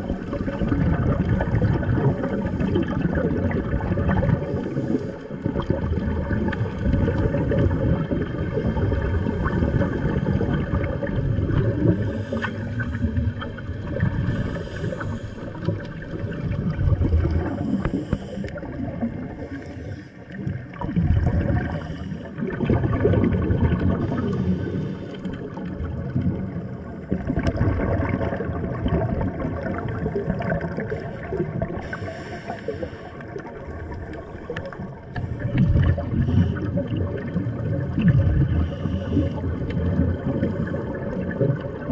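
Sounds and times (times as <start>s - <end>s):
underwater bubbles gurgling: 0.0s - 41.9s.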